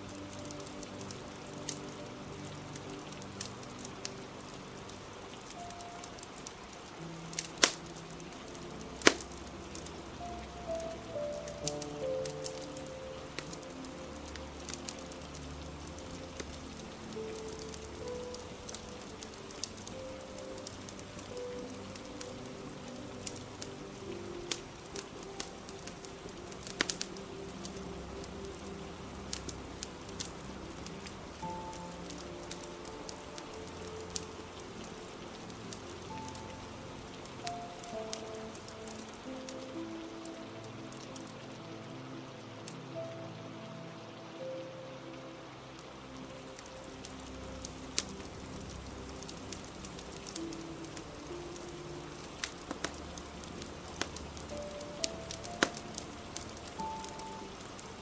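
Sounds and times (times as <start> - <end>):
fire crackling and popping: 0.0 - 43.1, 45.7 - 58.0
soft background music: 0.0 - 58.0
steady rain: 0.0 - 58.0.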